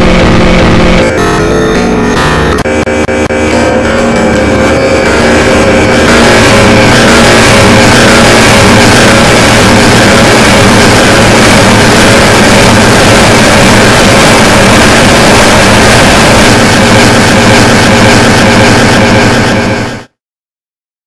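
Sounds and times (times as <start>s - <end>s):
harsh noise music: 0.0s - 20.2s.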